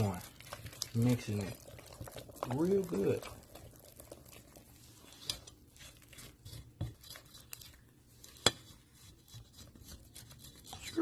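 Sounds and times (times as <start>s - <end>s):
spatula scraping a bowl: 0.0s - 11.0s.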